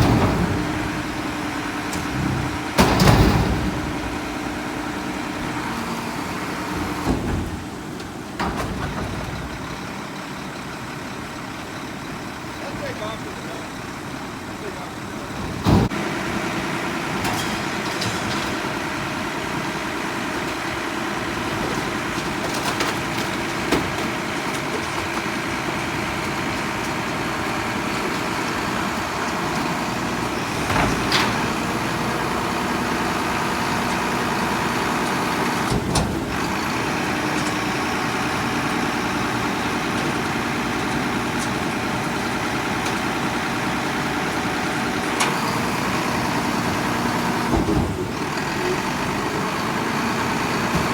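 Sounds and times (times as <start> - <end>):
garbage truck diesel engine running: 0.0 - 50.9.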